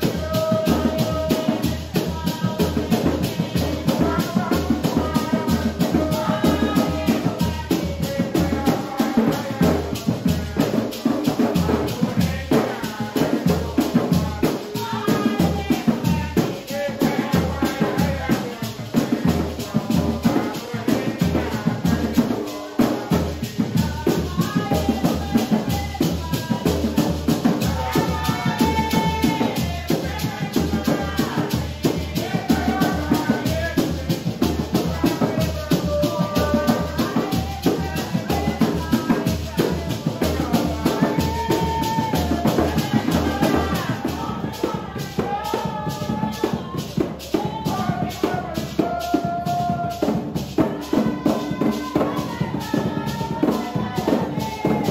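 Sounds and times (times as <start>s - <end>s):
maracas shaking: 0.0s - 54.9s
voices singing: 0.0s - 54.9s
wooden hand drums beating: 0.0s - 54.9s.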